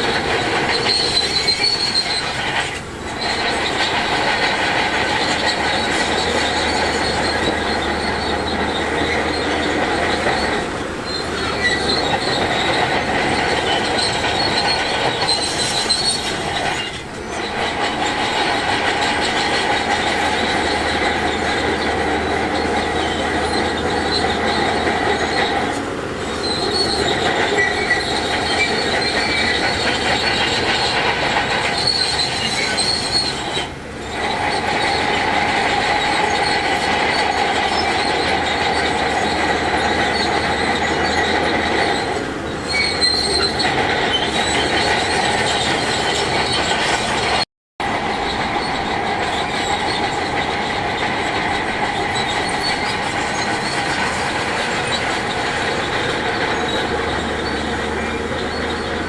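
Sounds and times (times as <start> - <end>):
heavy diesel machinery working: 0.0 - 59.0
metallic squeal and clanking: 0.0 - 59.0.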